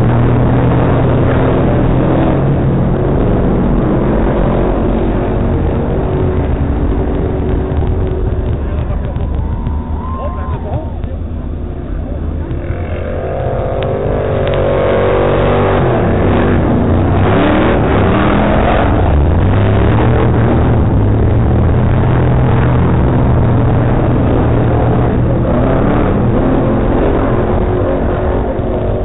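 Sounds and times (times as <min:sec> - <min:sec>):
car engine revving hard: 0:00.0 - 0:29.0.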